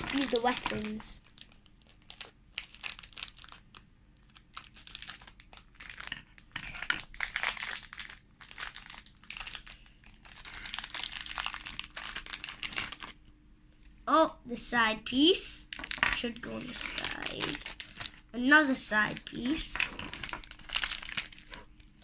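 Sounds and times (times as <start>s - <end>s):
plastic wrapper bags crinkling: 0.0s - 13.3s, 15.6s - 22.0s.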